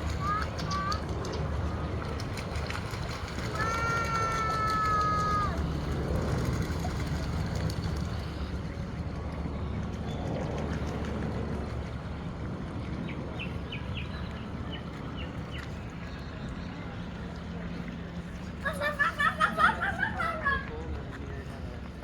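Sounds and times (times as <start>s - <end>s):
outdoor rumble: 0.0s - 22.0s.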